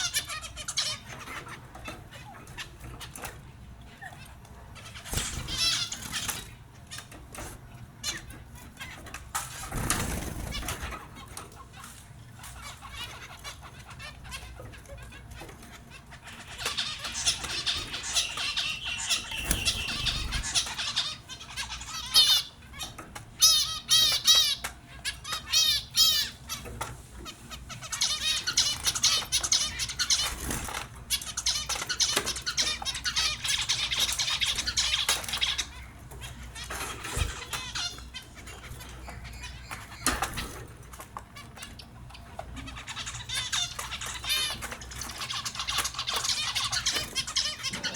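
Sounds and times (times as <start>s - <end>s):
finches chirping and chattering: 0.0s - 47.9s.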